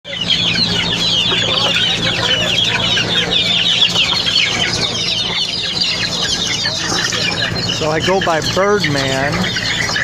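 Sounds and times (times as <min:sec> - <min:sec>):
chickens clucking: 0:00.1 - 0:10.0.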